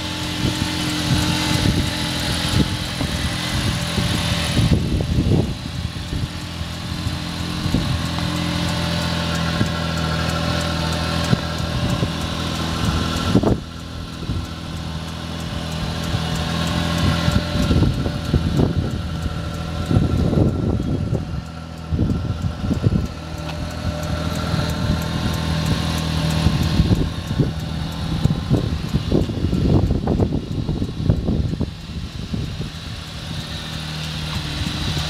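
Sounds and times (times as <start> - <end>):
small engine idling: 0.0 - 35.0
wind buffeting on microphone: 0.0 - 35.0.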